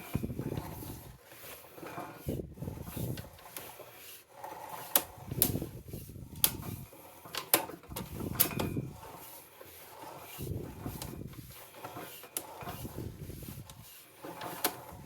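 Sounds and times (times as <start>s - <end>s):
push cable rubbing: 0.0s - 15.0s.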